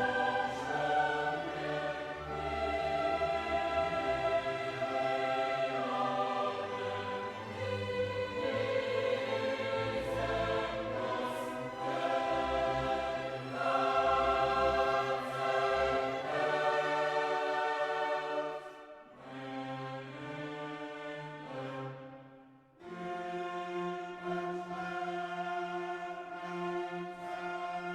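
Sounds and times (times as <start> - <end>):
choral and orchestral music: 0.0 - 27.9.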